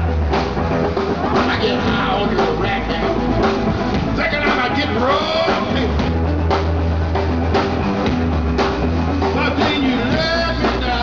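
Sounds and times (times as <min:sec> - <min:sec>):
drum kit beat: 0:00.0 - 0:11.0
low bass line: 0:00.0 - 0:11.0
rock band playing live: 0:00.0 - 0:11.0.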